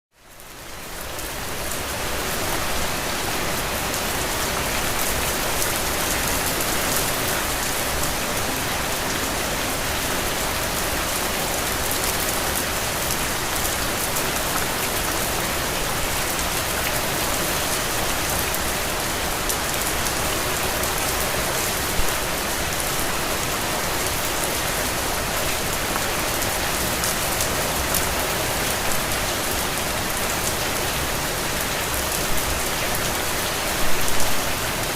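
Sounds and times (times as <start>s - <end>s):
steady rain patter: 0.2s - 34.9s.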